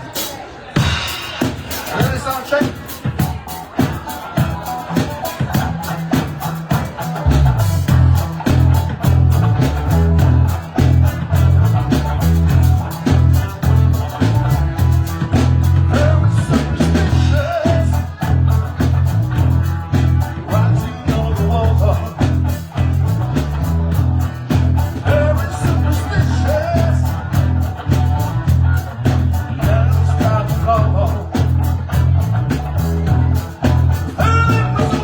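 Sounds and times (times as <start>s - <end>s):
bass line: 0.0s - 35.0s
drum beat: 0.0s - 35.0s
guitar: 0.0s - 35.0s.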